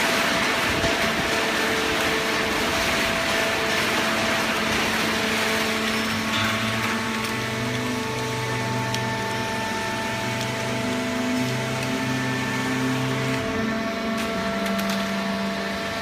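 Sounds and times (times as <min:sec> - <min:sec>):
hydraulic baler running: 0:00.0 - 0:16.0.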